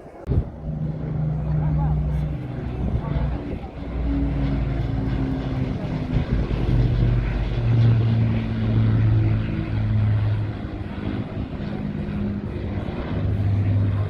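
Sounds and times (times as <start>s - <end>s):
propeller plane droning past: 0.0s - 14.0s.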